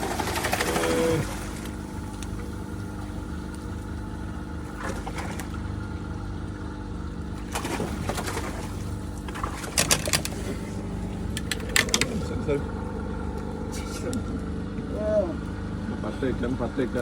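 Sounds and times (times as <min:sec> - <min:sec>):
boat engine hum: 0:00.0 - 0:17.0.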